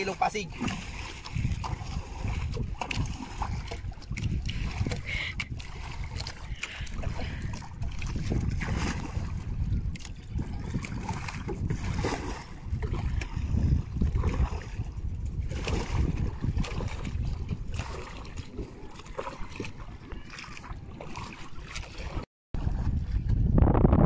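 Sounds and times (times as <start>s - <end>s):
wind rumble on microphone: 0.0s - 21.1s, 22.1s - 24.0s
paddle splashing in water: 0.0s - 23.6s.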